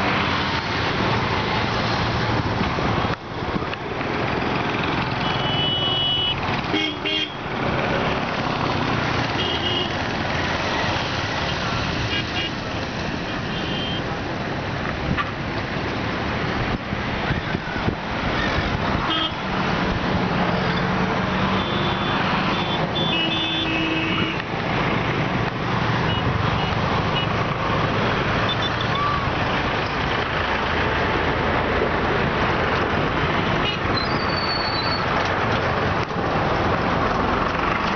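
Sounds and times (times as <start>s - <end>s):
road traffic noise: 0.0s - 37.9s.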